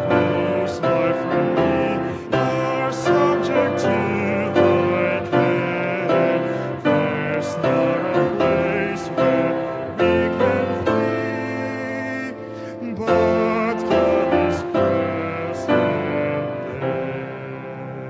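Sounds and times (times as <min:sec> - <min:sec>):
hymn with piano accompaniment: 0:00.0 - 0:18.0.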